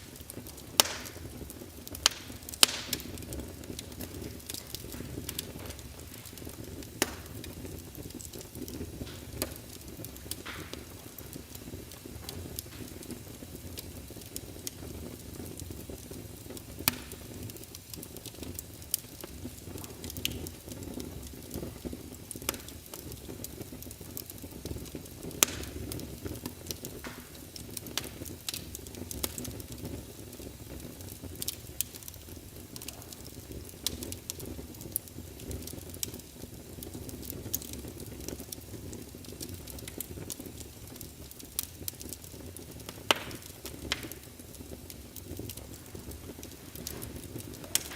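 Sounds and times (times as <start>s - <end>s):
pops and snaps of burning wood: 0.0s - 47.9s
wood fire crackling: 0.0s - 47.9s.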